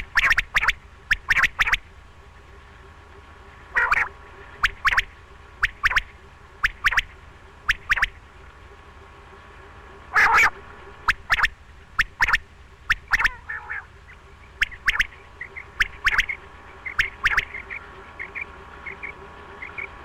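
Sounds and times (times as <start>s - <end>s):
quail calling: 0.0s - 1.9s, 3.7s - 8.2s, 10.1s - 20.0s.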